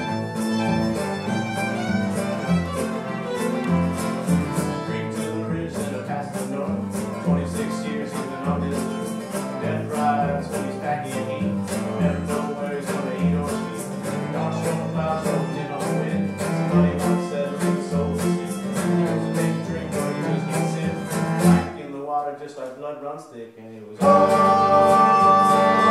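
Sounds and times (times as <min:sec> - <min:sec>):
bowed fiddle: 0:00.0 - 0:21.8, 0:24.0 - 0:25.9
strummed acoustic guitar: 0:00.0 - 0:22.1, 0:24.0 - 0:25.9.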